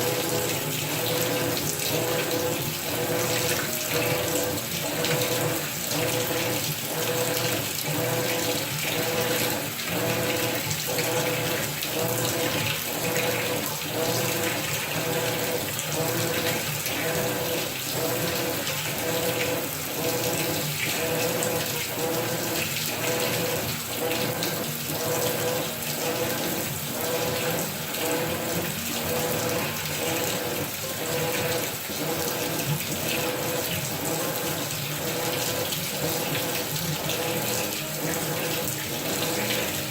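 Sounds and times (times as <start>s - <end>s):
washing machine agitator sloshing: 0.0s - 39.9s.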